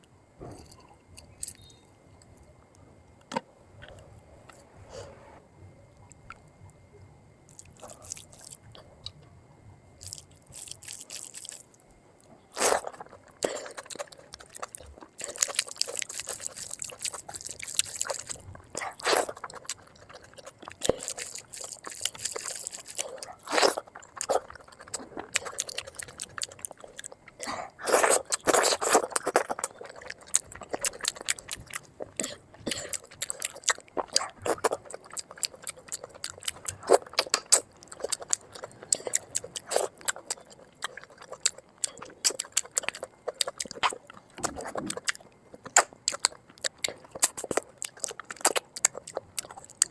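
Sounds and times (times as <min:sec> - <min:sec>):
crunchy bites and chewing: 0:07.5 - 0:09.2, 0:10.0 - 0:49.9.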